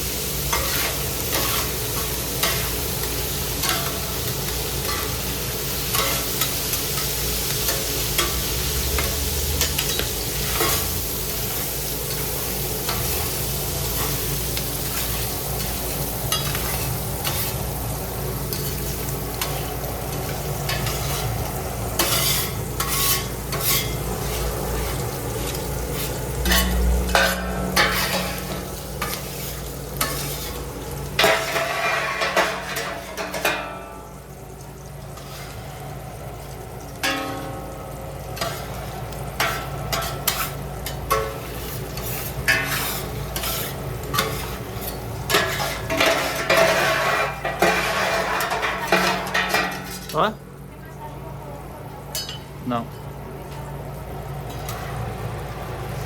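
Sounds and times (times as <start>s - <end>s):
food sizzling in frying: 0.0s - 56.0s.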